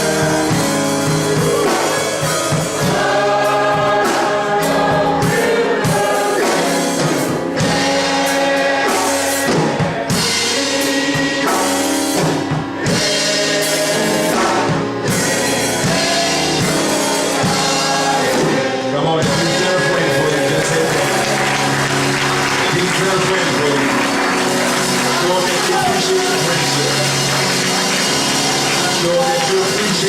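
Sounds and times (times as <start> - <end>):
drum kit steady beat: 0.0 - 30.0
gospel singing with band: 0.0 - 30.0.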